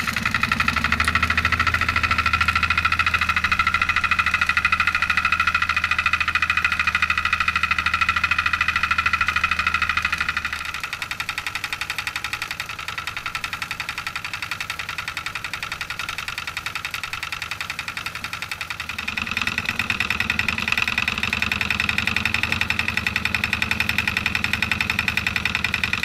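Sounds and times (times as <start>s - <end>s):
miniature steam engine running fast: 0.0s - 26.0s.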